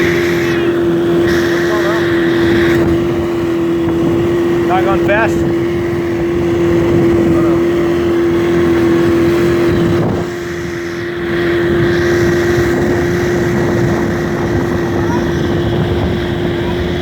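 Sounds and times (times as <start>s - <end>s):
boat motor running: 0.0s - 17.0s
wind and water noise: 0.0s - 17.0s.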